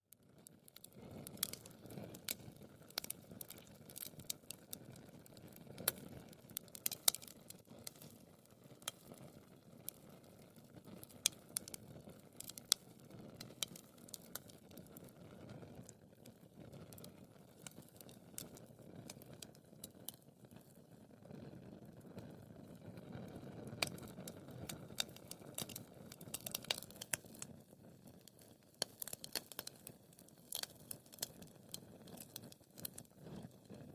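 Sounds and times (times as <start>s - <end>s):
fire crackling and popping: 0.1s - 33.9s.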